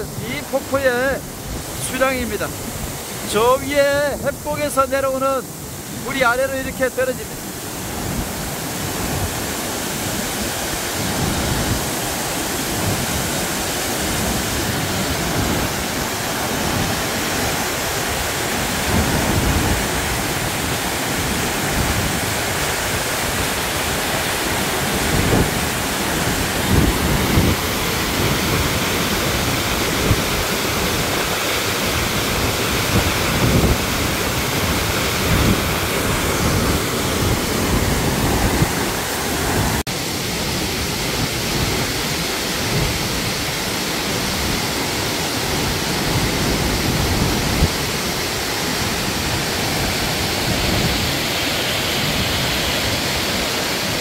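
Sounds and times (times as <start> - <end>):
waterfall rushing: 0.0 - 54.0
wind buffeting microphone: 7.2 - 39.9, 40.5 - 53.9.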